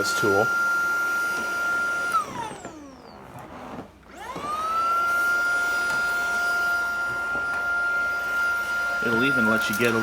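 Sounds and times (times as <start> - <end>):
vacuum motor whining: 0.0 - 10.0.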